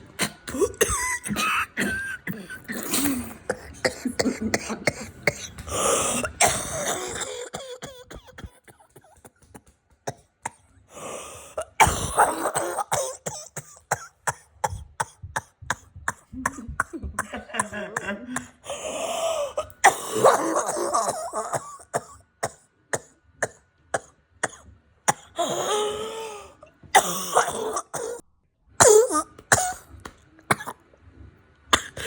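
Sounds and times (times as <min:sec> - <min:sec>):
person clearing throat: 0:00.1 - 0:09.7, 0:11.5 - 0:28.2, 0:28.8 - 0:30.8, 0:31.8 - 0:32.0
person coughing hard: 0:00.2 - 0:10.6, 0:11.5 - 0:28.2, 0:28.8 - 0:30.8, 0:31.8 - 0:32.0.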